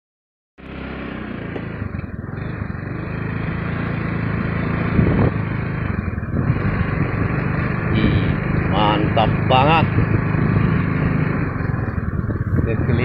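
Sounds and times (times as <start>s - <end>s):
motorcycle engine running: 0.6s - 13.0s.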